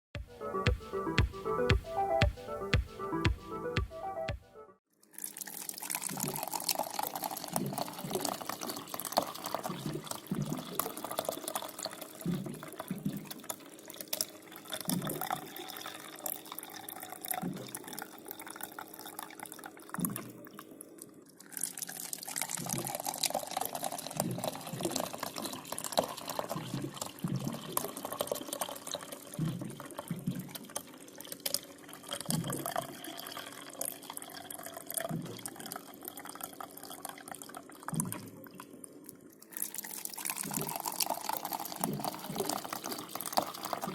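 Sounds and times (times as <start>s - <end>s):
water running into a container: 5.0s - 20.8s, 21.4s - 38.6s, 39.4s - 43.9s.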